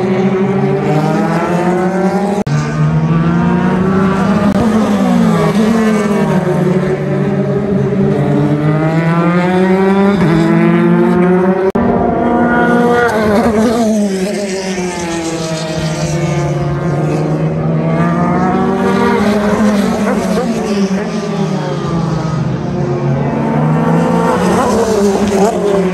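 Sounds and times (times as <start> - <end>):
race cars passing at speed: 0.0 - 25.9.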